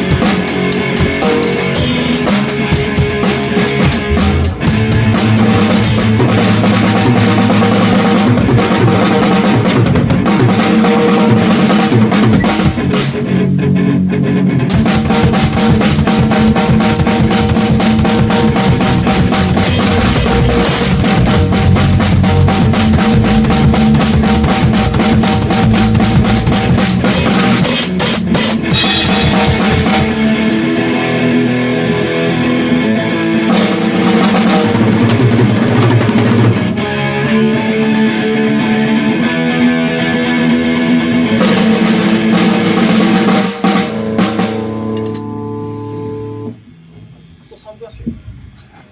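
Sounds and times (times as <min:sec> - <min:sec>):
drum kit: 0:00.0 - 0:39.0, 0:39.8 - 0:48.9
rock band playing: 0:00.0 - 0:47.0
electric guitar: 0:00.0 - 0:47.4.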